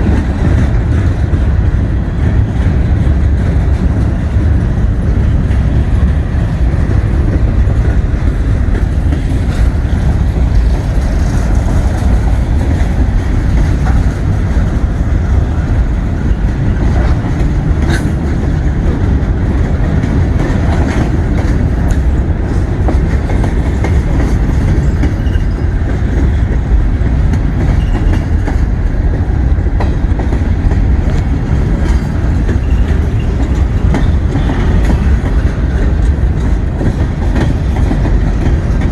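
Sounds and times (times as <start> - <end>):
freight train rumbling past: 0.0 - 38.9
wheels clicking over rail joints: 0.0 - 38.9.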